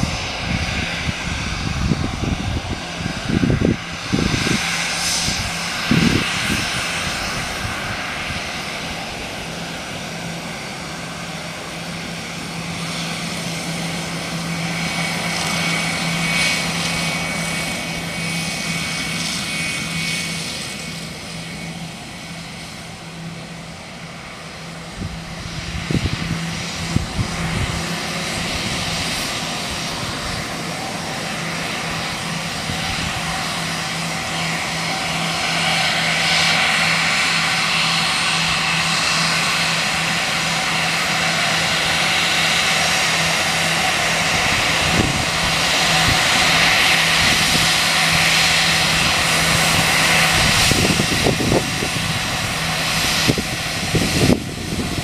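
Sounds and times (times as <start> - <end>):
jet engines taxiing: 0.0 - 55.0.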